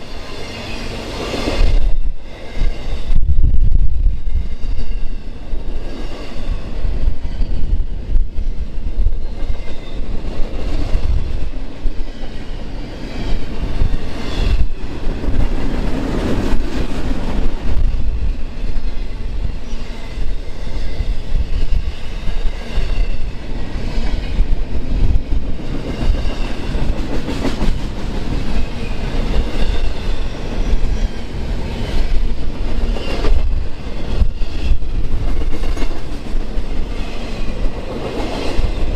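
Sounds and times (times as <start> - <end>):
high ringing from train wheels: 0.0 - 3.3, 3.9 - 38.9
train wheels rumbling on rails: 0.0 - 38.9.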